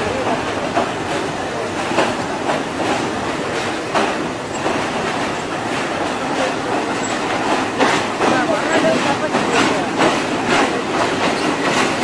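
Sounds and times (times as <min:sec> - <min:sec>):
train rumbling on rails: 0:00.0 - 0:12.0
wheels clacking over rail joints: 0:00.0 - 0:12.0.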